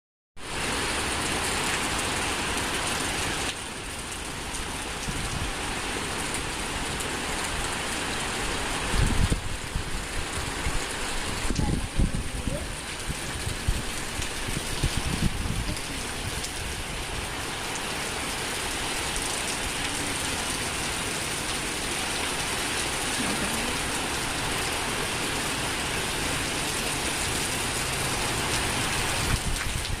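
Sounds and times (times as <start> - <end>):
rain pouring in wind: 0.4 - 30.0.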